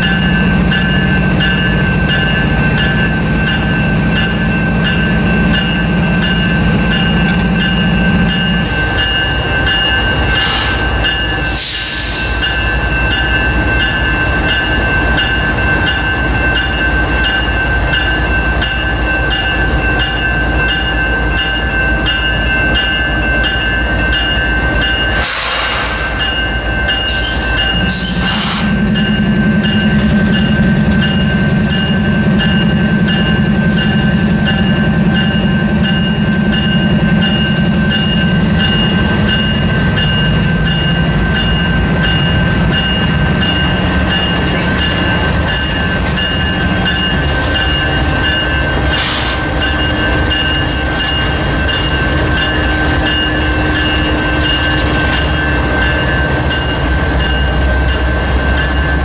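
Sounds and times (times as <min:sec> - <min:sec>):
crossing warning bell ringing: 0:00.0 - 0:59.0
diesel locomotive engines droning: 0:00.0 - 0:59.0.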